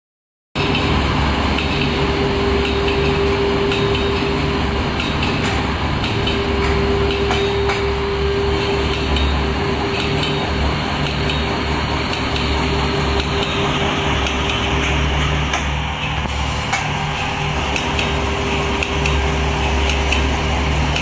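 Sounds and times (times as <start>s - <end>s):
machine clicks and knocks: 0.6s - 21.0s
machine humming: 0.6s - 21.0s.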